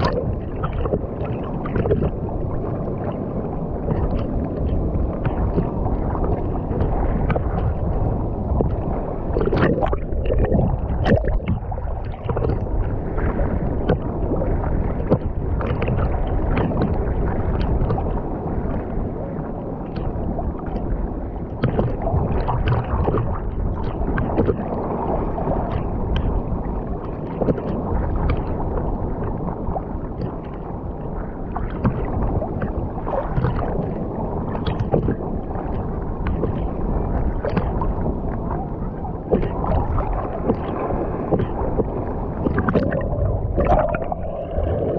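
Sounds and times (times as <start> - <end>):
muffled underwater rush: 0.0 - 44.9.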